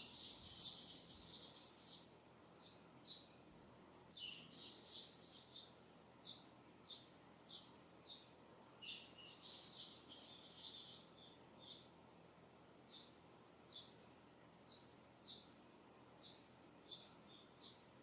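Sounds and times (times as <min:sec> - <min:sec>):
distant small birds chirping: 0:00.0 - 0:18.0.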